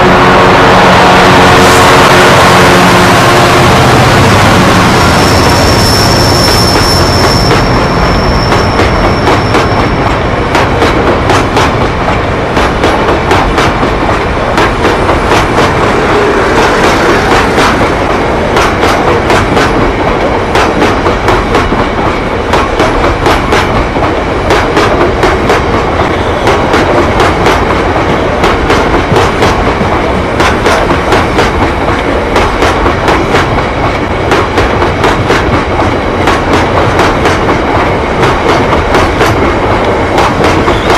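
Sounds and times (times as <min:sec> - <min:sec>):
loud train rumble: 0:00.0 - 0:40.9
train wheels clattering: 0:01.5 - 0:40.9.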